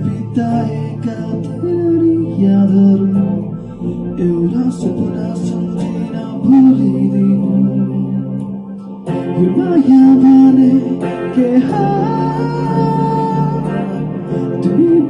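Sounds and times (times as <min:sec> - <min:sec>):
man singing: 0:00.0 - 0:08.4, 0:09.1 - 0:15.0
acoustic guitar strumming: 0:00.0 - 0:15.0.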